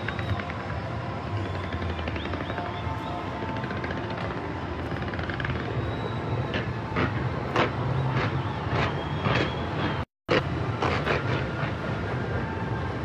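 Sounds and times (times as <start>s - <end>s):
fireworks crackling rumble: 0.0s - 13.0s.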